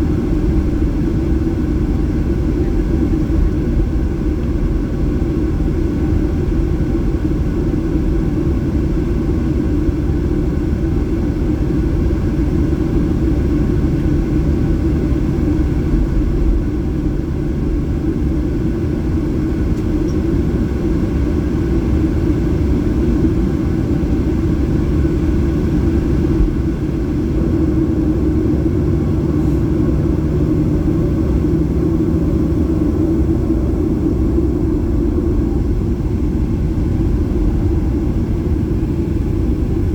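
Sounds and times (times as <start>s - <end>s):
jet engine rumble inside cabin: 0.0s - 39.9s.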